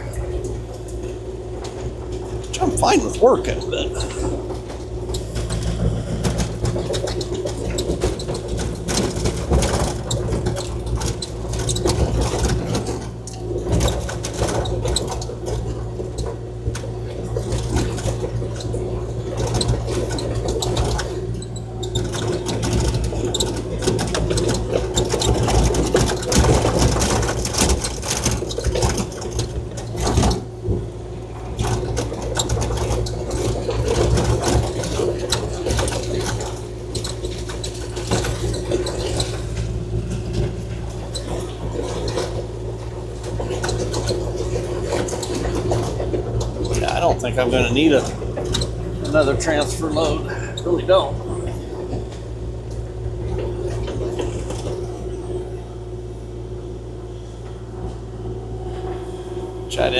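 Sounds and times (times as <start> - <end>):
mini excavator diesel running: 0.0 - 59.9.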